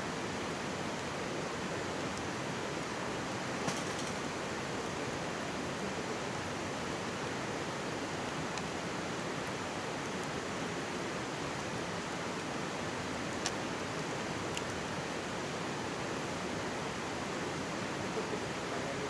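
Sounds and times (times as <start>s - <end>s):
campfire crackles: 0.2s - 19.0s.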